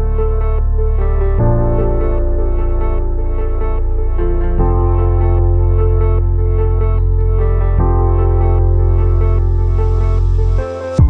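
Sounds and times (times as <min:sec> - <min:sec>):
ambient music with held chord: 0:00.0 - 0:11.0.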